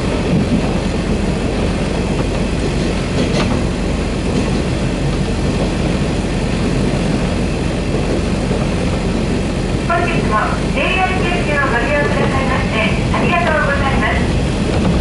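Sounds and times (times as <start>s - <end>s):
railcar engine drone: 0.0s - 15.0s
wheels rumbling on rails: 0.0s - 15.0s.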